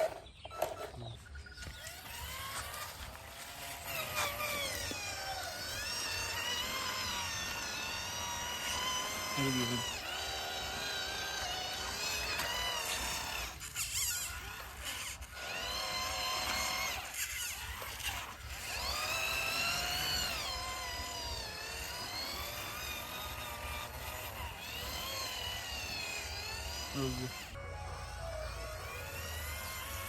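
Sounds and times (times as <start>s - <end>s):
toy tractor electric motors whining: 0.0s - 30.0s.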